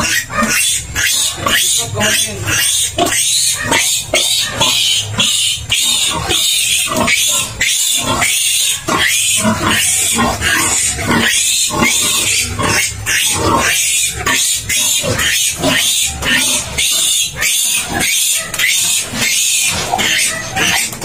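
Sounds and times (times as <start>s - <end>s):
piglet squealing: 0.0s - 21.0s.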